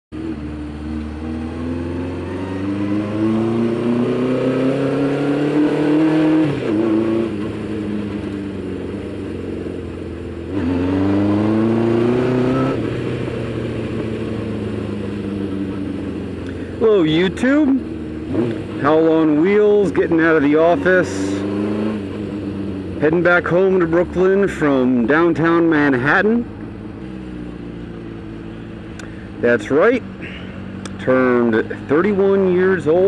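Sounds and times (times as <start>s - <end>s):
motorcycle engine revving: 0.1s - 33.0s.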